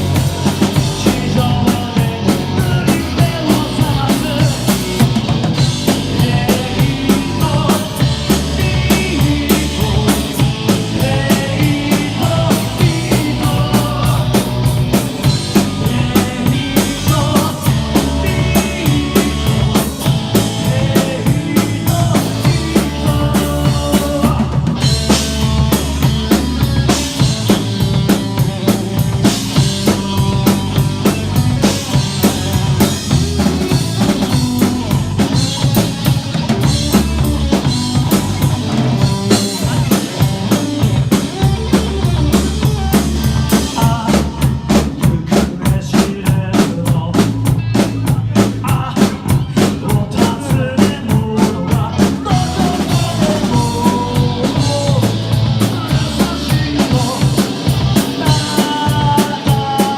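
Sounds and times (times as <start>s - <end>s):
driving drum kit: 0.0s - 59.9s
rock band instrumental: 0.0s - 59.9s.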